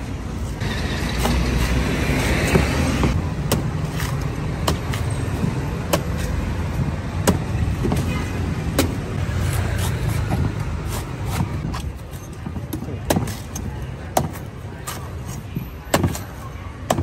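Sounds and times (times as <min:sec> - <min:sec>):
street traffic rumble: 0:00.0 - 0:17.0
cleaver chopping coconut: 0:01.2 - 0:08.1, 0:08.7 - 0:17.0.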